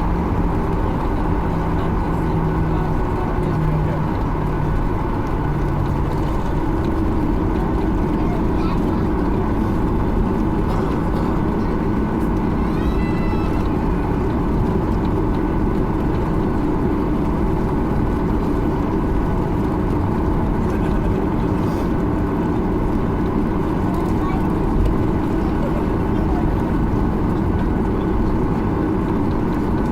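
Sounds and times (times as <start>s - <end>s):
jet engines idling in cabin: 0.0s - 29.9s.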